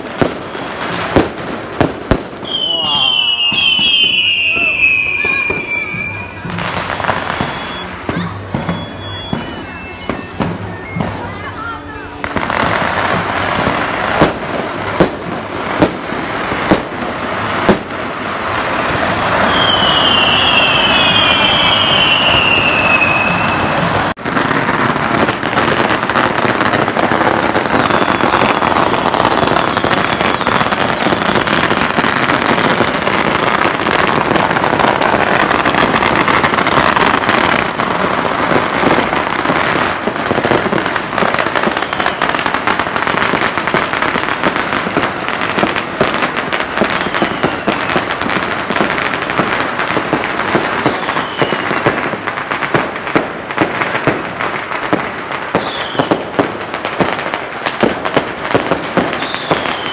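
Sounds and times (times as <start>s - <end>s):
fireworks crackling and banging: 0.0s - 59.9s.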